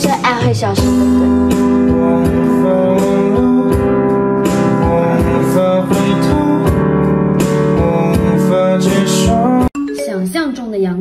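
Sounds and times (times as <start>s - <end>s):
pop music with guitar and beat: 0.0s - 9.9s.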